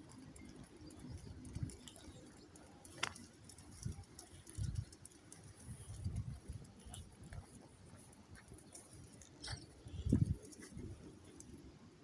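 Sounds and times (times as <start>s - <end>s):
light ticking: 0.0s - 11.6s
muffled footsteps on asphalt: 0.0s - 11.6s.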